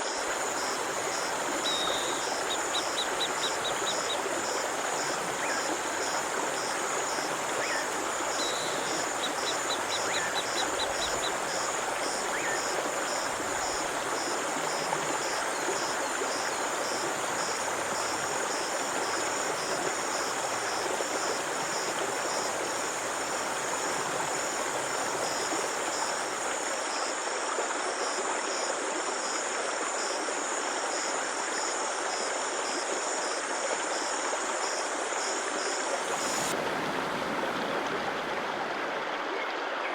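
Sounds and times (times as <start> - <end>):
insects chirping: 0.0 - 39.0
stream flowing: 0.0 - 39.9.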